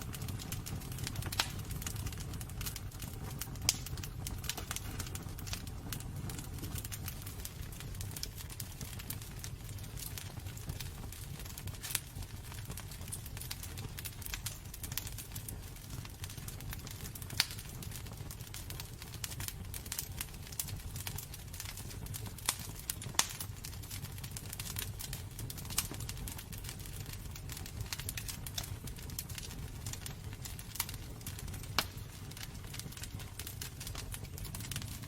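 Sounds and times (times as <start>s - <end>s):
fire crackling and popping: 0.0s - 35.0s
fire flames rumbling: 0.0s - 35.0s.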